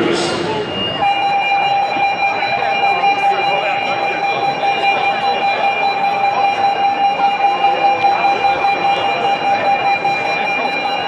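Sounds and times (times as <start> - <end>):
background noise: 0.0 - 11.0
fire alarm multi-pitched tone: 0.6 - 11.0.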